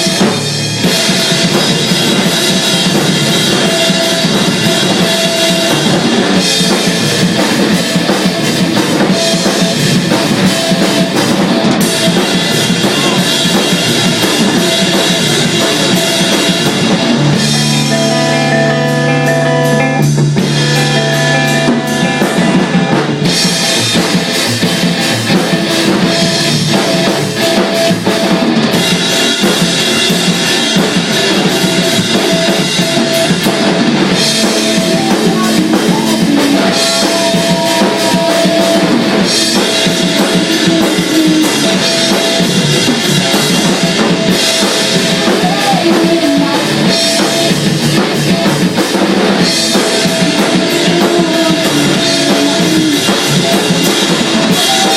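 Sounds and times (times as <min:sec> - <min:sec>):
band playing rock music: 0:00.0 - 0:54.9
bass drum and snare: 0:00.0 - 0:54.9.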